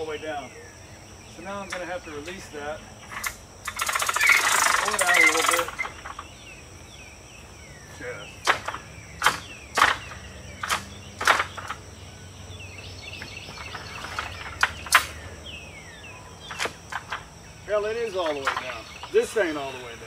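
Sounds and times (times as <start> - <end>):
birds chirping: 0.0 - 20.0
high insect drone: 0.0 - 20.0.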